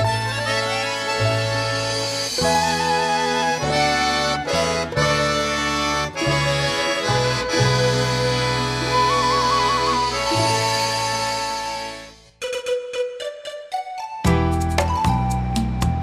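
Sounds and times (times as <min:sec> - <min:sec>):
instrumental title music: 0:00.0 - 0:16.0.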